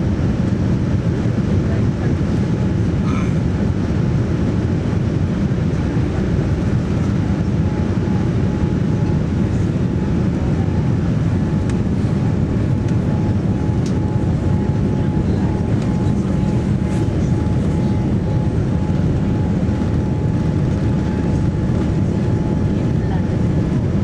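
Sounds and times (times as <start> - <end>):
airliner cabin engine roar: 0.0 - 24.0.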